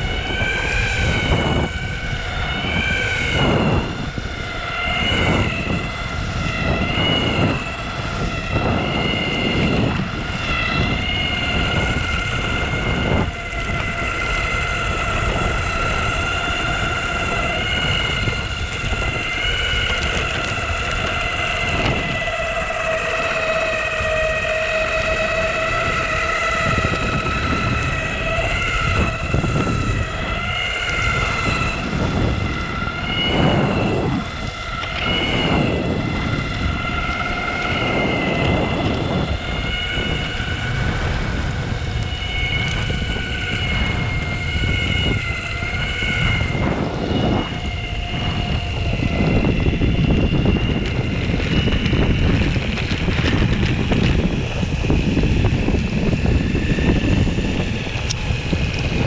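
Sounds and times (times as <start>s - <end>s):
electric motors whining: 0.0s - 59.0s
wheel rumble: 0.0s - 59.0s
wind: 0.0s - 59.0s.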